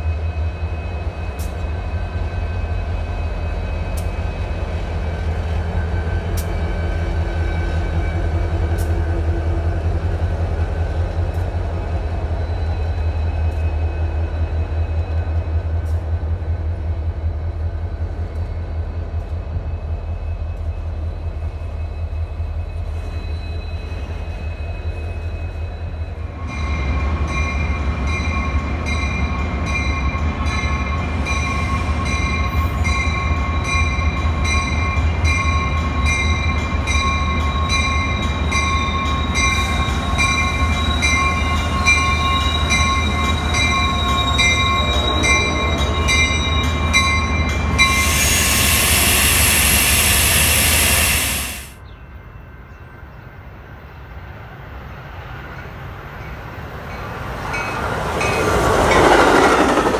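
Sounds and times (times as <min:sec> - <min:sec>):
commuter train whine: 0:00.0 - 0:59.9
freight train rumbling on rails: 0:00.0 - 0:59.9.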